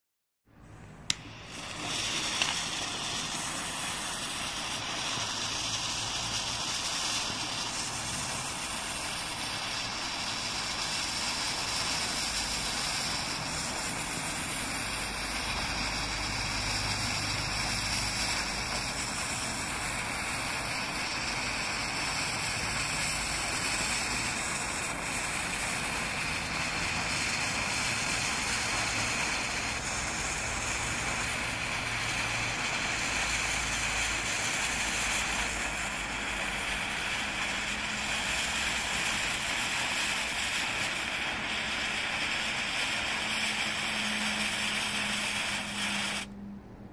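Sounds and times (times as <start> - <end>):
fuse burning with a hiss: 0.6 - 46.9.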